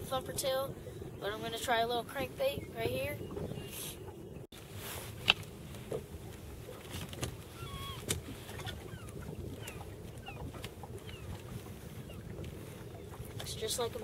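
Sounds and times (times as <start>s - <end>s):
water: 0.0s - 14.0s
wind: 0.0s - 14.0s.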